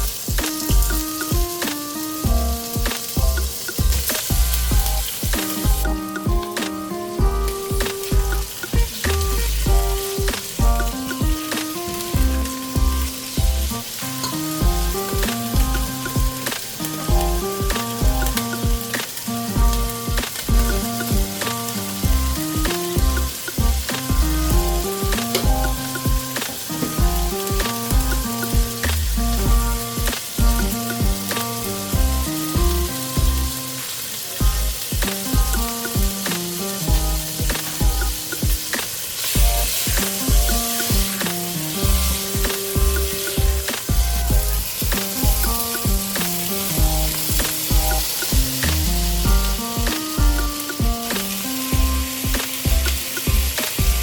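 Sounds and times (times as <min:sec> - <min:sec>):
background music with beat: 0:00.0 - 0:54.0
food sizzling in a pan: 0:00.0 - 0:54.0.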